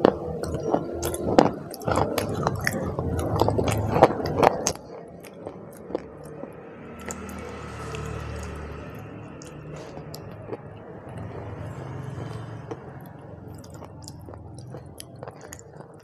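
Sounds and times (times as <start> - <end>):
person crunching brittle food: 0.0 - 16.0.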